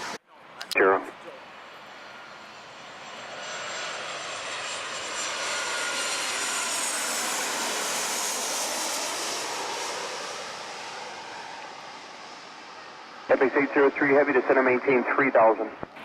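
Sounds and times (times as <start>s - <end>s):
jet airliner passing overhead: 0.0s - 16.0s
jet engine high whine: 0.0s - 16.0s.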